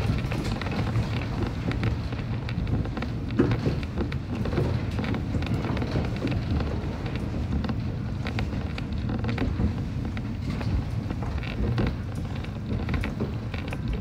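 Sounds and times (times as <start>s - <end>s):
train running gear rumble: 0.0s - 14.0s.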